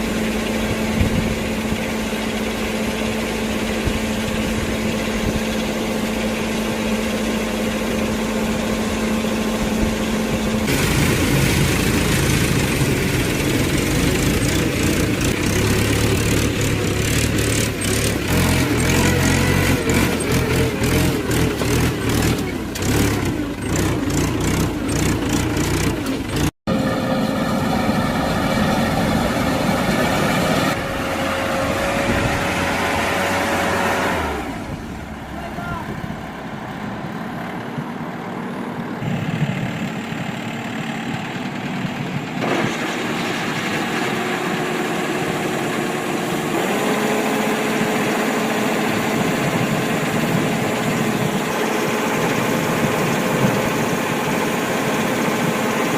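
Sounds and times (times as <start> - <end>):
combine harvester running: 0.0 - 55.9.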